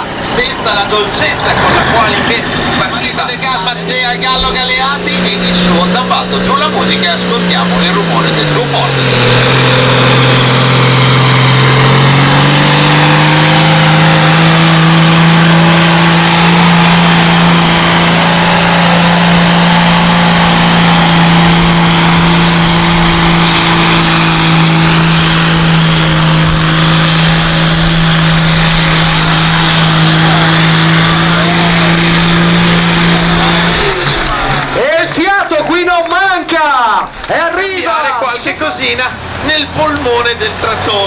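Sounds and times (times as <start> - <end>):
tractor engine at high revs: 0.0 - 41.0.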